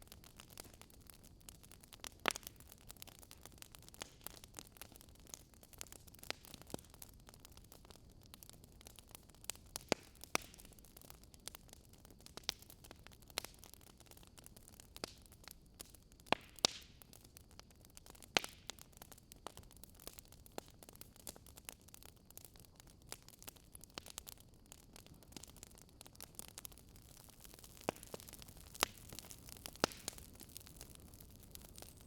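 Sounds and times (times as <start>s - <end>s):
faint steady hiss: 0.0s - 32.0s
wood fire crackling: 0.0s - 32.0s.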